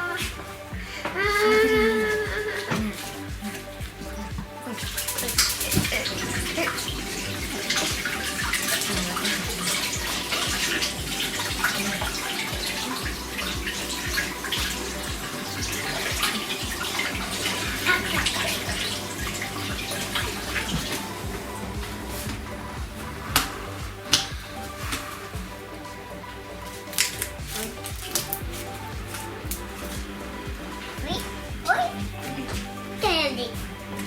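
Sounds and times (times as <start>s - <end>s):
tap water running and splashing: 0.0s - 34.0s.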